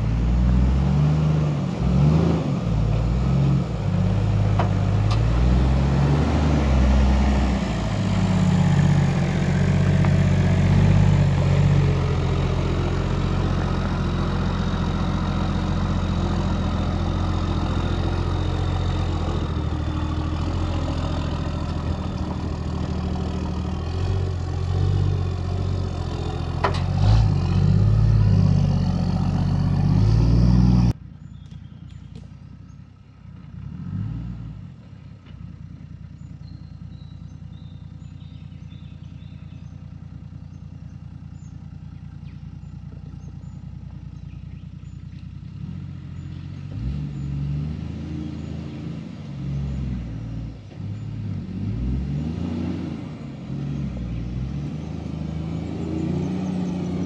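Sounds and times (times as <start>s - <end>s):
engine working under load: 0.0s - 57.0s.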